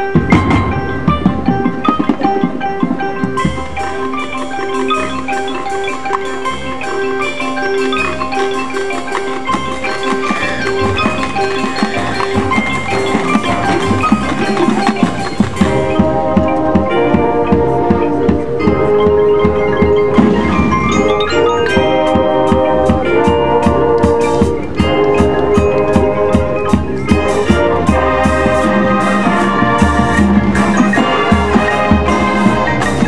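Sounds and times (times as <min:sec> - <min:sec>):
held band chords: 0:00.0 - 0:33.0
mallet percussion rapid notes: 0:00.0 - 0:33.0
marching band playing: 0:00.0 - 0:33.0.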